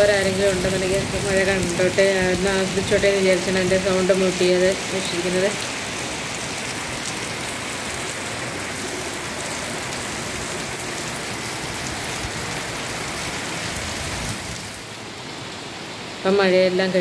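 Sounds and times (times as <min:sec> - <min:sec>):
heavy rain on pavement and plants: 0:00.0 - 0:17.0.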